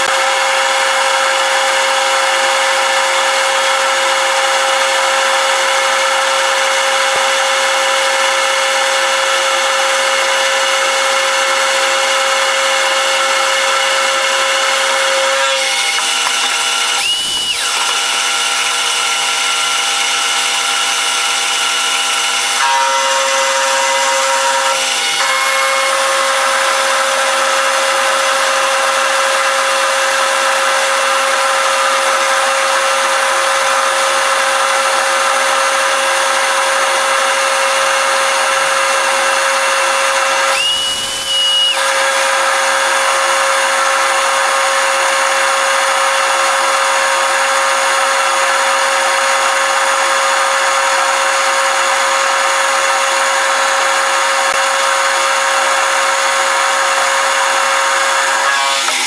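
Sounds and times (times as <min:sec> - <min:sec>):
power tool machining steel: 0:00.0 - 0:59.0.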